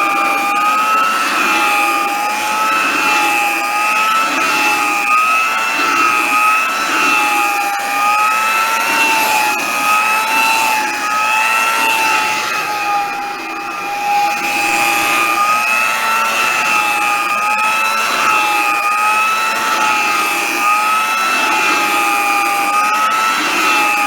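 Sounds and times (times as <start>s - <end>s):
hand vacuum cleaner running: 0.0s - 24.0s.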